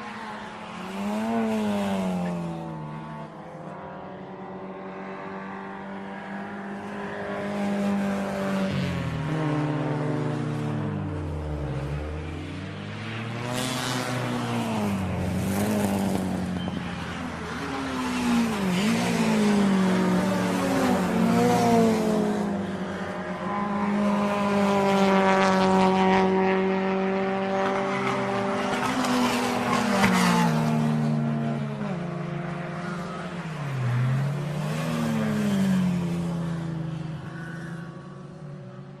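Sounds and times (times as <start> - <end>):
racing car engines revving: 0.0 - 39.0.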